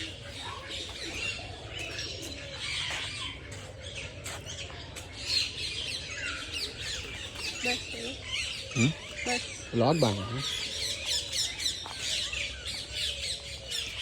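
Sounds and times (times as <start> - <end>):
caged birds chirping and squawking: 0.0 - 14.0.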